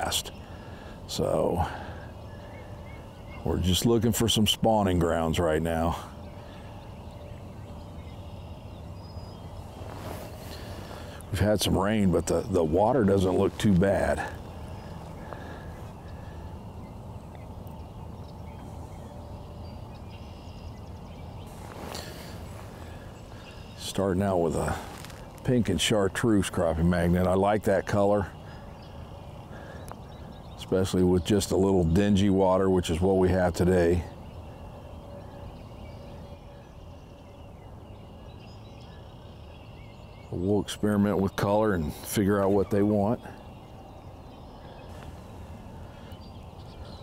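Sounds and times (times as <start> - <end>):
low background rumble: 0.0 - 40.3
distant bird calls: 0.0 - 47.0.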